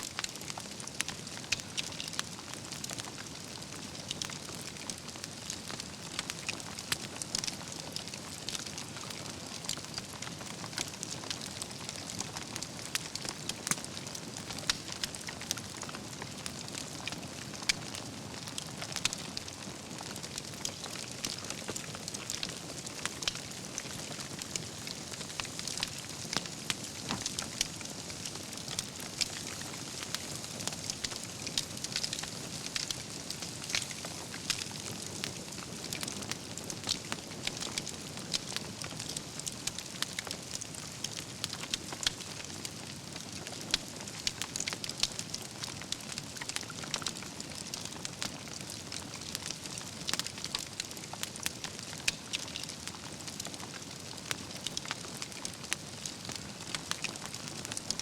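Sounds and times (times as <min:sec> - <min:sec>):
campfire crackling and hissing: 0:00.0 - 0:58.0.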